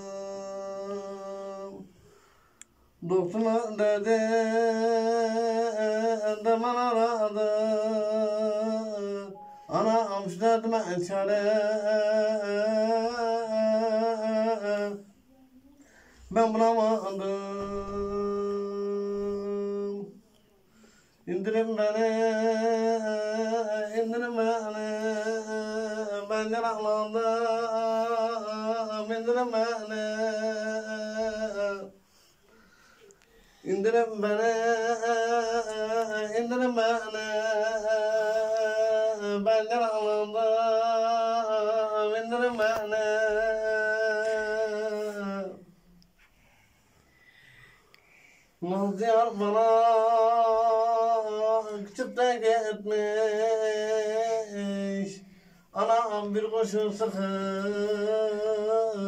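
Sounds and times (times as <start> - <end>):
man singing unaccompanied: 0.0 - 46.3, 48.6 - 59.0.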